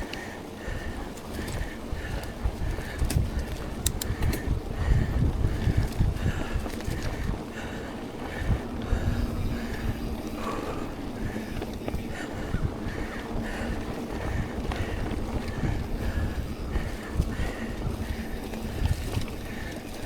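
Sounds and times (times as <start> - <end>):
bike rattling over bumps: 0.0 - 20.0
bike tyres rumbling on dirt: 0.0 - 20.0
wind buffeting microphone: 0.0 - 20.0.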